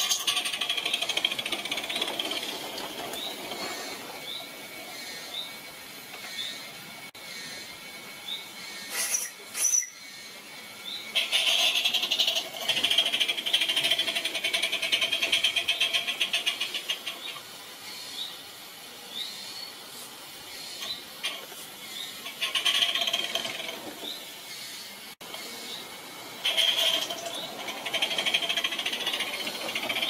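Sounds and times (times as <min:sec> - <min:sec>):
steam locomotive chuffing: 0:00.0 - 0:30.0.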